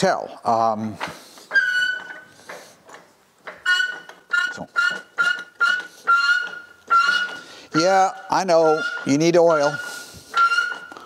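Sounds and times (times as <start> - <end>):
drive line squeaking: 1.5 - 11.0.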